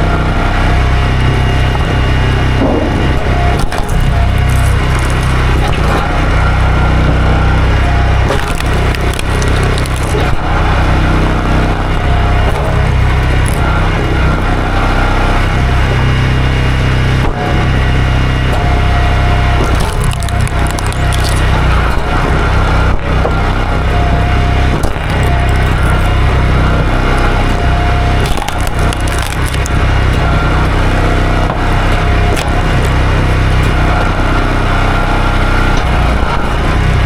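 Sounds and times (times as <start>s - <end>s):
chainsaw cutting stump: 2.4s - 36.5s.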